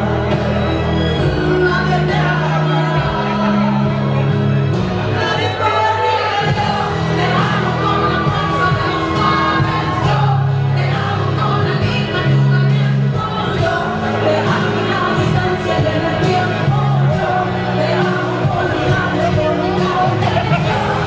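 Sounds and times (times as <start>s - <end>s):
backing music with bass notes: 0.0s - 21.0s
person singing: 0.0s - 21.0s.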